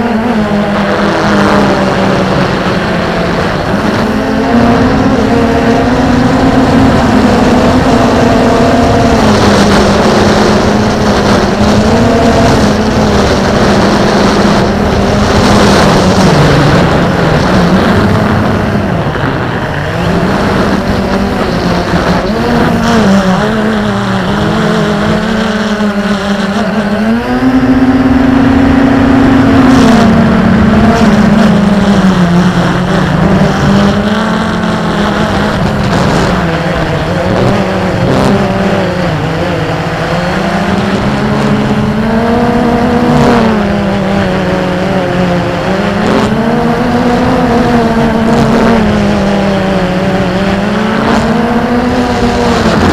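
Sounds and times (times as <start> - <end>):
drone propellers humming: 0.0 - 52.9
wind on microphone: 0.0 - 52.9.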